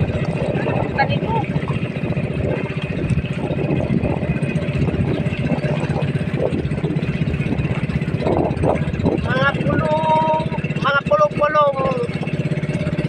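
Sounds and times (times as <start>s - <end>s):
motorboat engine chugging: 0.0s - 13.0s.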